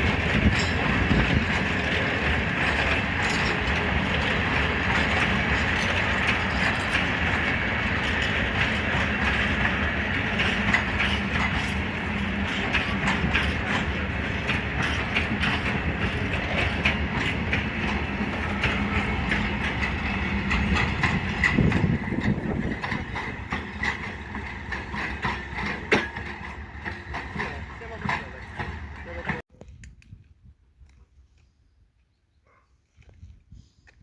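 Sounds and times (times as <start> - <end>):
train wheels rumbling on rail: 0.0 - 29.4.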